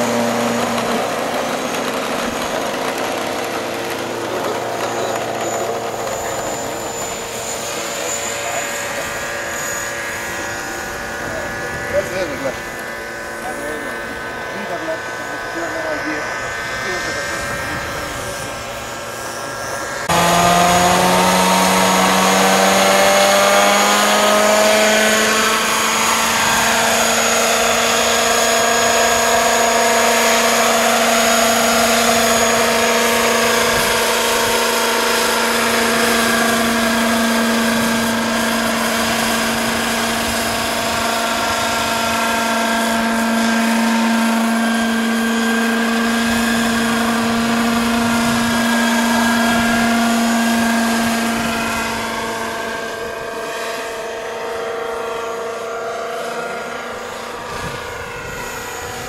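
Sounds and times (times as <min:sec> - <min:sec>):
model helicopter high whine: 0:00.0 - 0:59.0.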